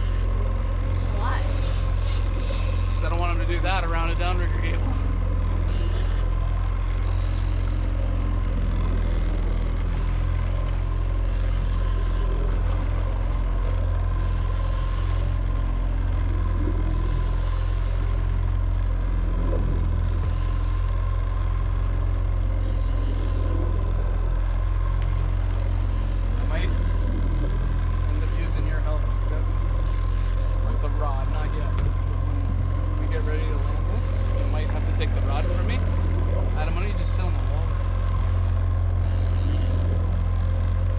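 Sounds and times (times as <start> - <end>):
boat motor droning: 0.0 - 40.9.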